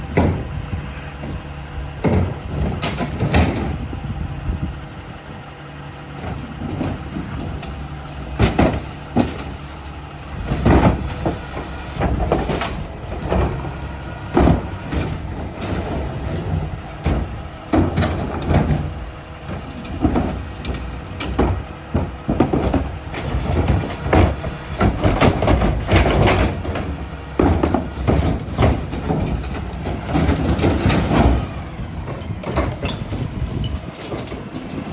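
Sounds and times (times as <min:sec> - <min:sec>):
diesel engine running: 0:00.0 - 0:34.9
garbage truck clanks and bangs: 0:00.0 - 0:34.9.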